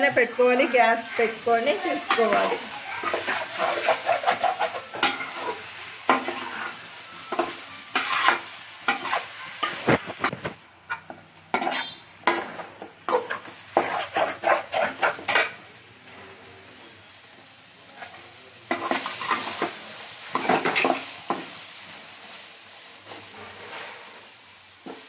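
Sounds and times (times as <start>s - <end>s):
frying sizzle: 0.0s - 25.0s
metal spatula scraping a metal pan: 0.2s - 15.6s, 18.0s - 22.0s, 23.0s - 25.0s.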